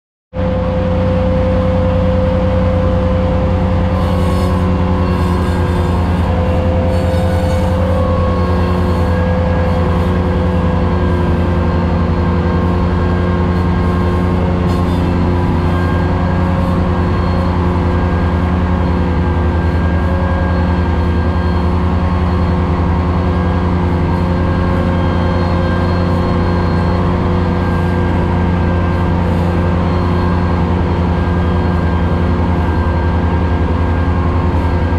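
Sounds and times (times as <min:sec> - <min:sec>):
tractor engine drone: 0:00.3 - 0:34.9
steady higher tones: 0:00.4 - 0:34.9.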